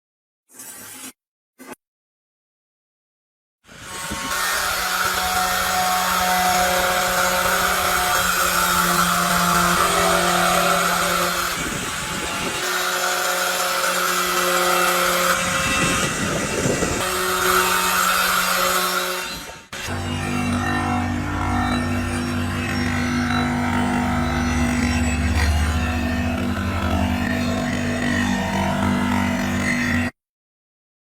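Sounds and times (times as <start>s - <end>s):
power tool motor running: 4.0s - 30.1s.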